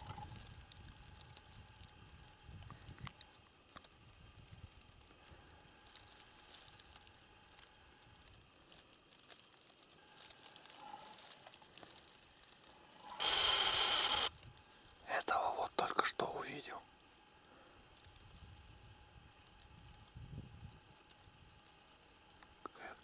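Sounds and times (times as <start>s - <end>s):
soft ticks and rustles: 0.0s - 13.2s, 14.2s - 23.0s
faint outdoor hiss: 0.0s - 23.0s.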